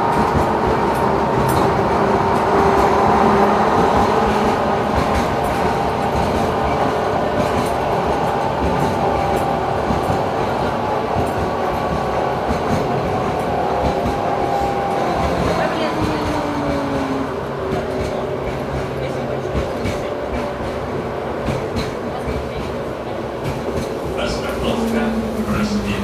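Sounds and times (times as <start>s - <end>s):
tram running rumble: 0.0s - 26.0s.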